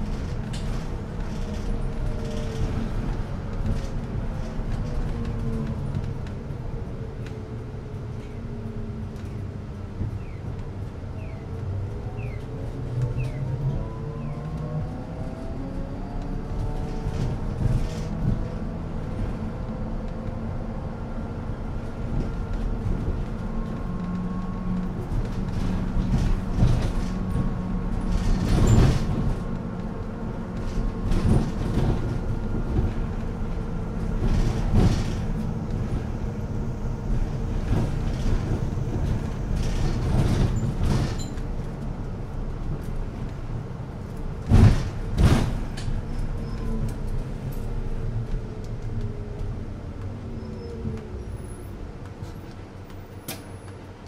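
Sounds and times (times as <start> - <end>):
bus engine hum with whine: 0.0 - 54.0.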